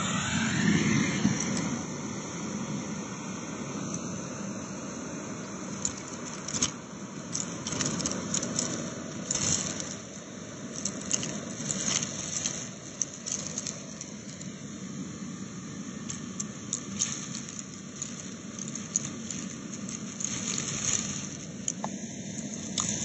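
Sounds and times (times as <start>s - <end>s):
grains rattling up hose: 0.0s - 2.9s, 3.5s - 23.0s
vacuum cleaner running: 0.0s - 23.0s.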